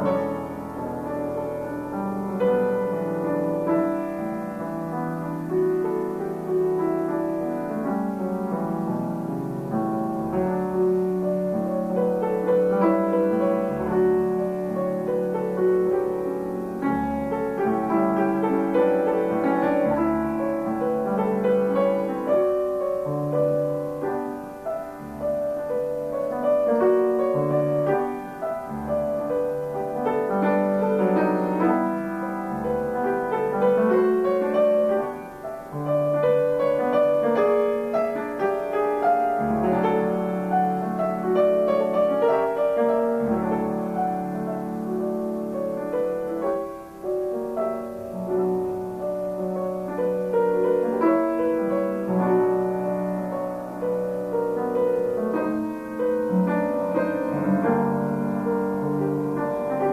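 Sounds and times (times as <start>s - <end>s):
solo grand piano classical piece: 0.0s - 59.9s.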